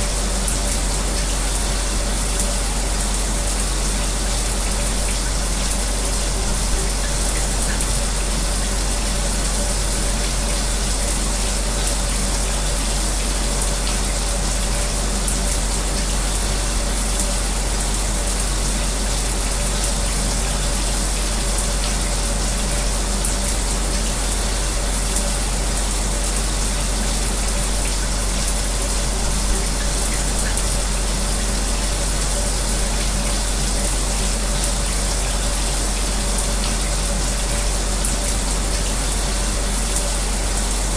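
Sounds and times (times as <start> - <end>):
electric fan humming: 0.0 - 40.9
shower spray running: 0.0 - 40.9.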